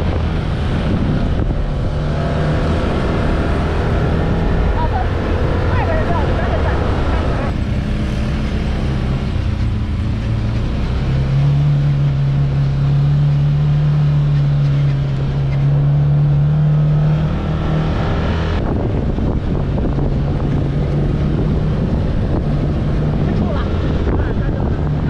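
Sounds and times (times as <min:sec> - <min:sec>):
wind noise: 0:00.0 - 0:13.0, 0:14.0 - 0:25.0
utv engine running: 0:00.0 - 0:25.0.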